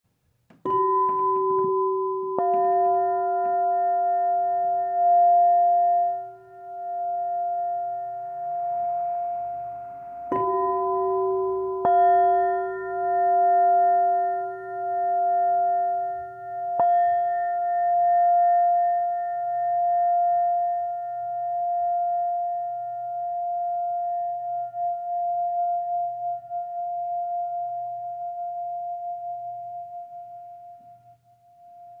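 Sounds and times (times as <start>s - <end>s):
crystal singing bowls ringing: 0.6s - 31.0s.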